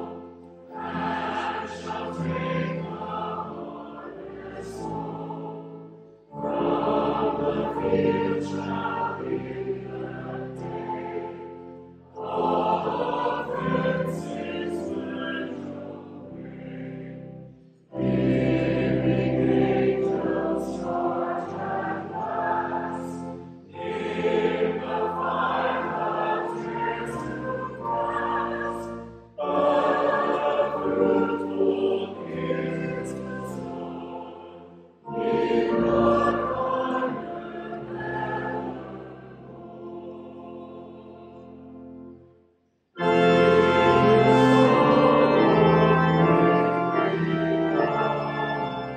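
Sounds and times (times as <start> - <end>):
congregation singing a hymn: 0.0 - 42.4, 43.0 - 48.9.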